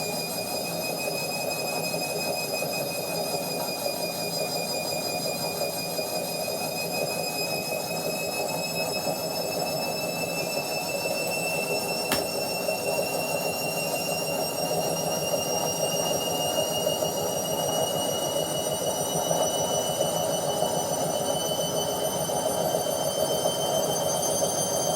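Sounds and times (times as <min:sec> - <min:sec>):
washing machine spin whir: 0:00.0 - 0:24.9.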